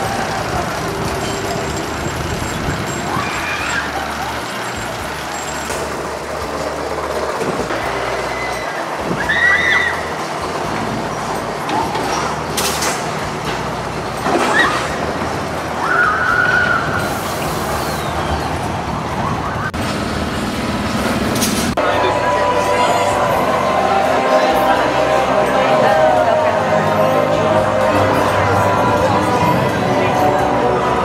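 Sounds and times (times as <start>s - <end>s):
rumble of rides and traffic: 0.0s - 31.0s.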